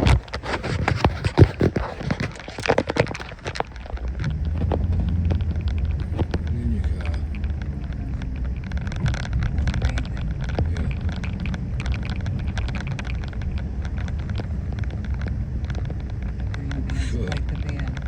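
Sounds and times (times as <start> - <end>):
small clicks and crackles: 0.0 - 18.0
traffic rumble: 0.0 - 18.0.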